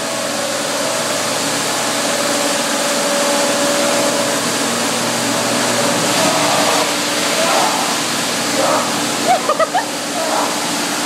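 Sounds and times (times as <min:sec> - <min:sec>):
machine hum: 0:00.0 - 0:11.0
high-pressure water spray hissing: 0:00.2 - 0:11.0.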